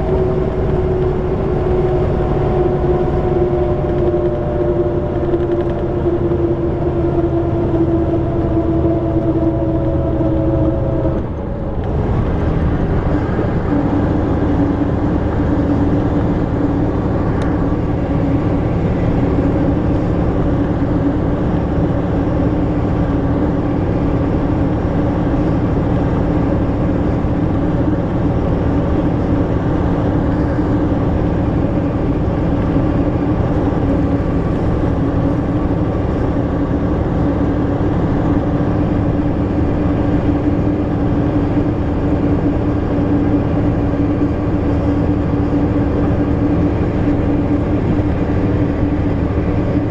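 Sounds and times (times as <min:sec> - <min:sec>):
bus diesel engine droning: 0:00.0 - 0:49.9.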